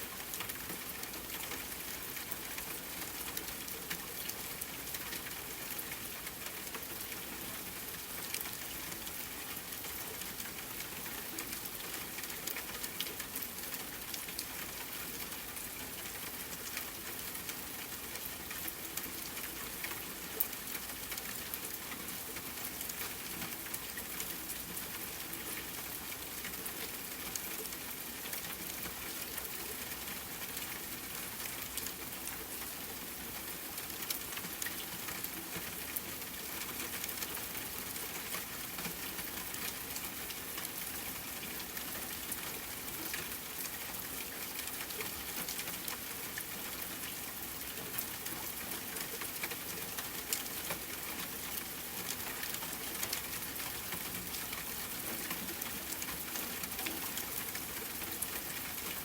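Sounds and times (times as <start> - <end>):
rain pattering on a tent: 0.0 - 59.0.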